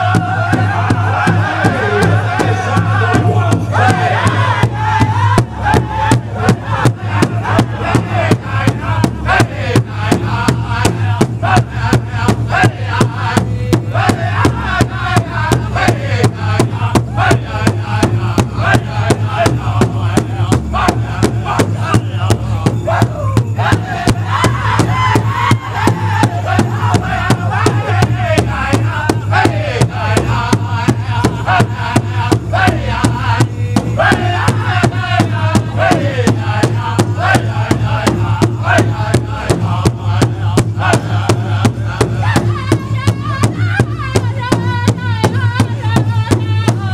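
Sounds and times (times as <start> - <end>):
large drum steady beat: 0.0 - 46.9
men chanting together: 0.0 - 46.9.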